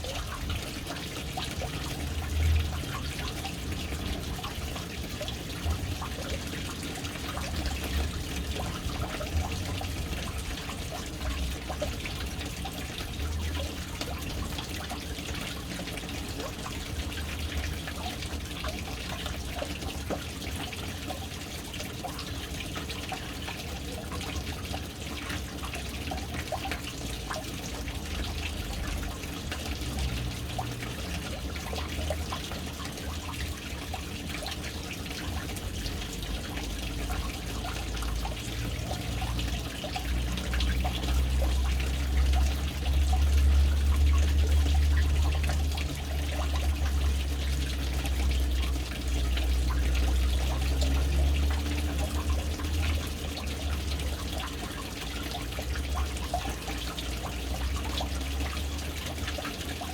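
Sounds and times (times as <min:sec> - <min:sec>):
water trickling into tank: 0:00.0 - 0:59.9.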